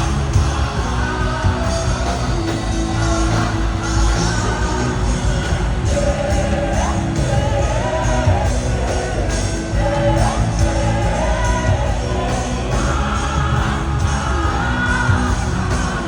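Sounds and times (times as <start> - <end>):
live worship music: 0.0 - 16.0
people singing: 0.0 - 16.0.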